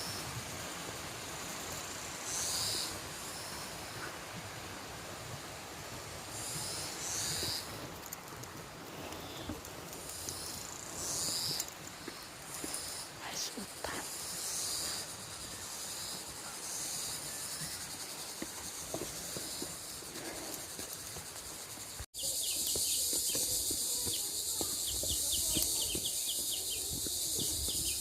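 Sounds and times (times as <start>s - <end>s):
quick insect chirps: 0.0s - 5.0s, 6.2s - 8.4s, 9.1s - 28.0s
insects buzzing: 0.0s - 28.0s.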